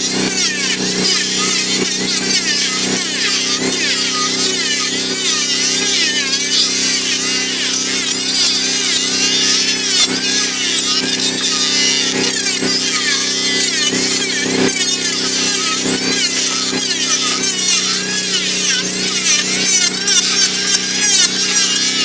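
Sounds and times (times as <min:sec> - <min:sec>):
electric planer shaving wood: 0:00.0 - 0:22.0.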